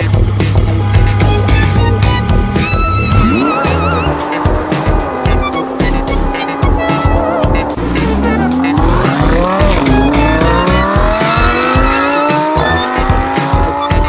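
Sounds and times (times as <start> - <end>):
electronic music with steady beat: 0.0 - 14.0
race car engine revving: 0.0 - 14.0.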